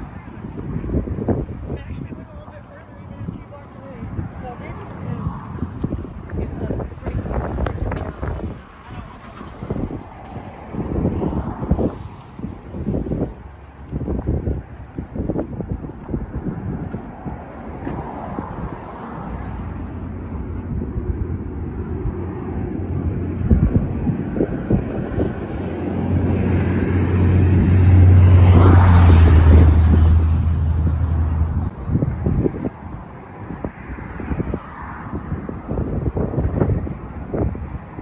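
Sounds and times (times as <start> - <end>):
vehicle engine hum with road noise: 0.0 - 38.0.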